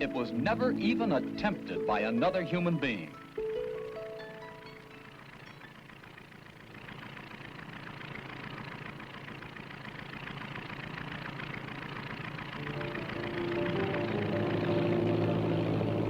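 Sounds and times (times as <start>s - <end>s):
propeller airplane engine droning: 0.0s - 16.0s.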